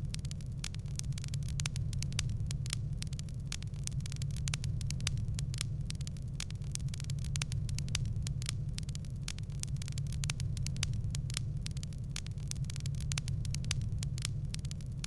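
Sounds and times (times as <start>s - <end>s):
low rumble of burning logs: 0.0s - 15.0s
wood fire popping and snapping: 0.0s - 15.0s.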